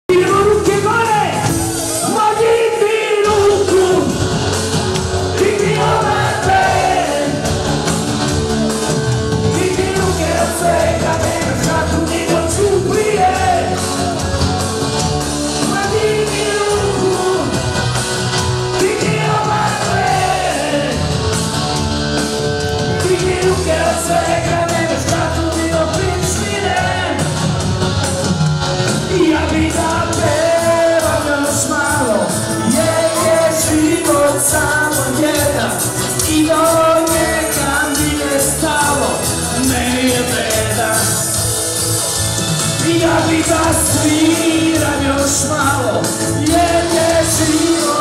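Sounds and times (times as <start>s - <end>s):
live band playing dance music: 0.0s - 48.0s
lead singer: 0.1s - 48.0s
electric guitar: 3.3s - 48.0s.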